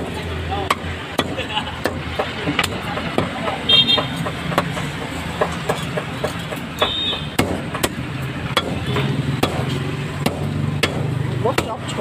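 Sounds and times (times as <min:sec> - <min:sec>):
sharp irregular knocks: 0:00.6 - 0:12.0.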